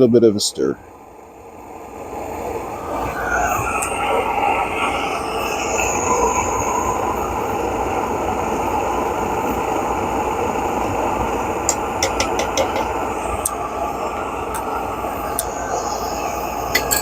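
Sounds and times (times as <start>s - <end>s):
stove burner rushing: 2.2s - 17.0s.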